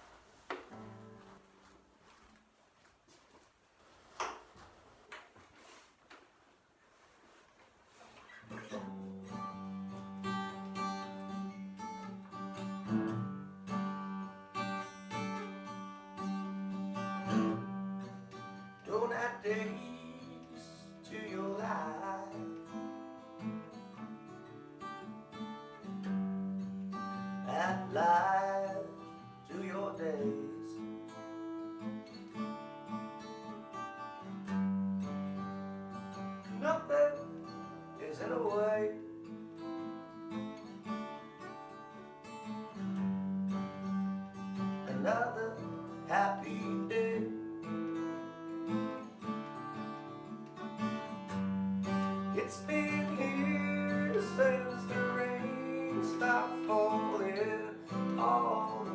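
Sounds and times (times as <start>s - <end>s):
acoustic guitar chords: 0.0s - 1.8s, 8.5s - 58.9s.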